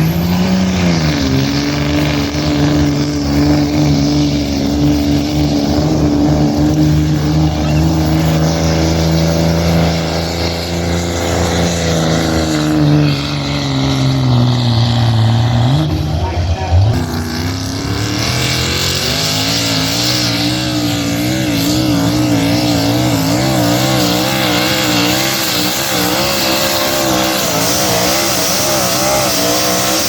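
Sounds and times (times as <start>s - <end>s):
truck engine running under load: 0.0s - 30.0s.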